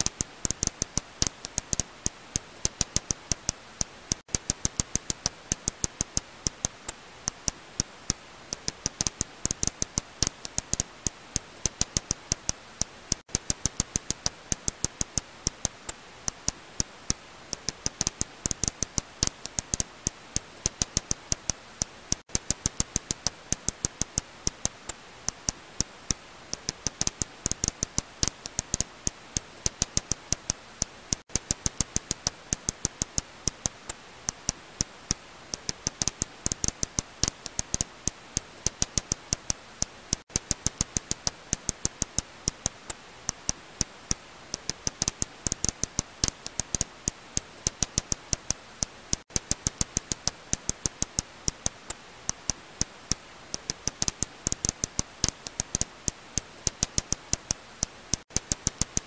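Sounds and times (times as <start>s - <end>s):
bat echolocation clicks: 0.0s - 59.0s
steady hiss: 0.0s - 59.0s.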